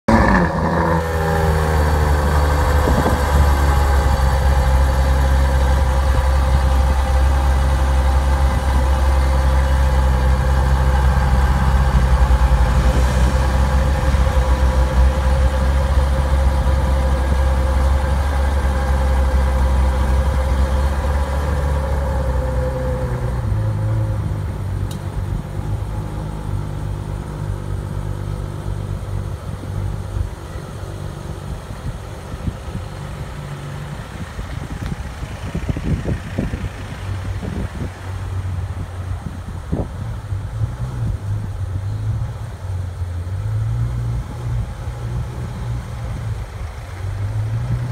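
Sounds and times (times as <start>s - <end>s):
car engine idling: 0.1s - 47.9s.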